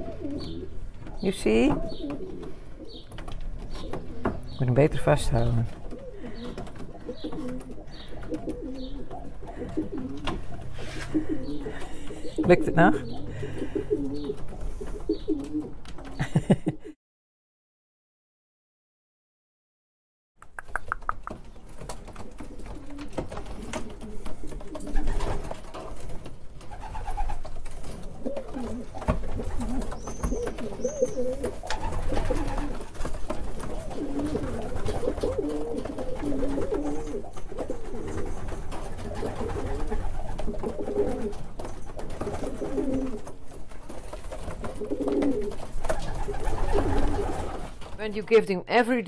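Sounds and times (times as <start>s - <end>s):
pigeons cooing: 0.0s - 4.6s, 5.4s - 16.2s, 20.7s - 47.8s.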